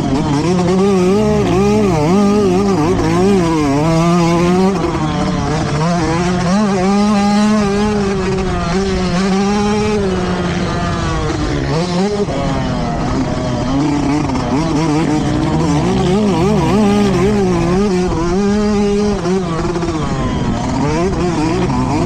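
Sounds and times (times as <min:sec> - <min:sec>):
motocross bike engines racing: 0:00.0 - 0:22.0.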